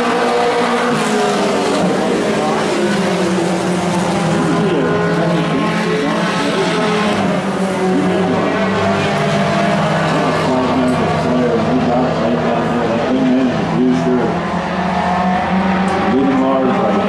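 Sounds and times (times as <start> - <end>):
race truck engines running hard: 0.0 - 17.0.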